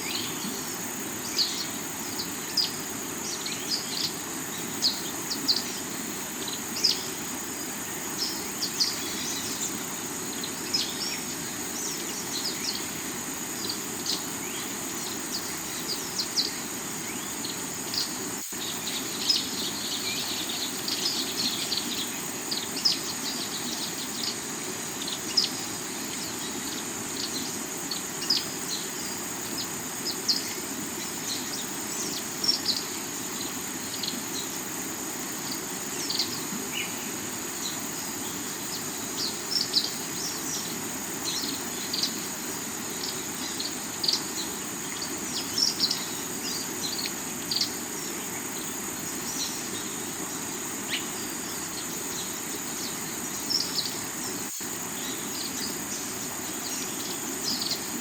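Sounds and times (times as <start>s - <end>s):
high insect trill: 0.0s - 58.0s
river water running over rocks: 0.0s - 58.0s.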